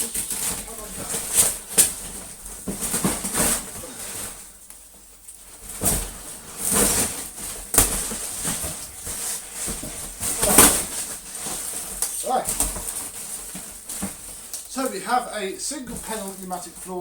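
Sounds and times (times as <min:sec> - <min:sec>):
cardboard packaging rustling: 0:00.0 - 0:17.0.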